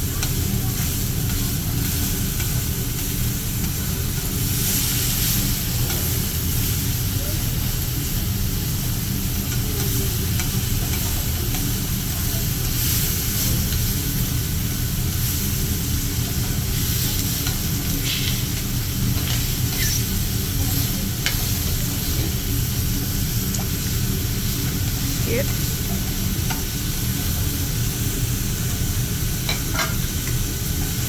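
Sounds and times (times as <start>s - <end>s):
food sizzling on a griddle: 0.0s - 31.0s.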